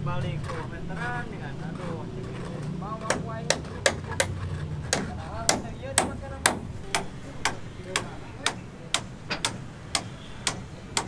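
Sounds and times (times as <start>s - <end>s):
hammering: 0.0s - 11.0s.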